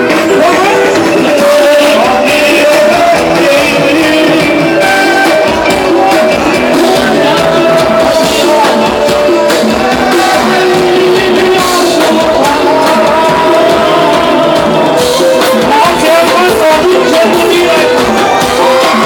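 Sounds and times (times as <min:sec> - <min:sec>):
drum beat: 0:00.0 - 0:19.0
loud dance music: 0:00.0 - 0:19.0.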